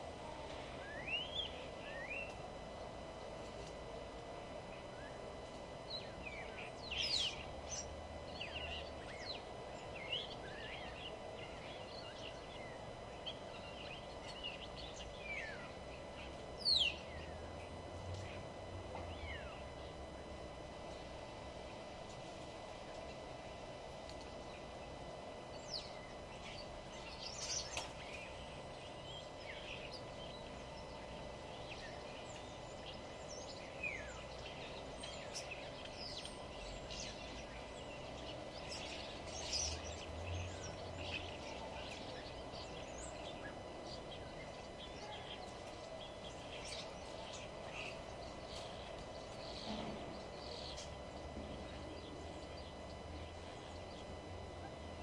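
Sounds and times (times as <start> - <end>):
steady background hum: 0.0 - 55.0
birds chirping and singing: 0.8 - 2.7, 4.7 - 55.0.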